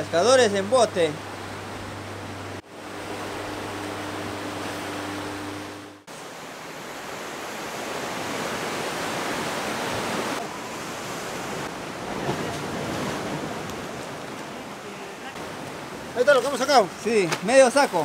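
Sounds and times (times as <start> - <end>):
ocean surf breaking over rocks: 0.0 - 18.0.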